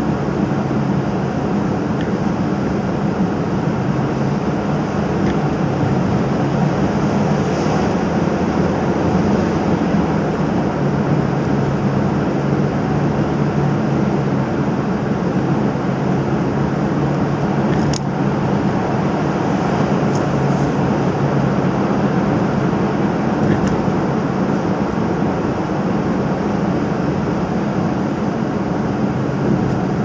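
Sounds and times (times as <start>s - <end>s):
car engine hum: 0.0s - 30.0s
tyre road roar: 0.0s - 30.0s.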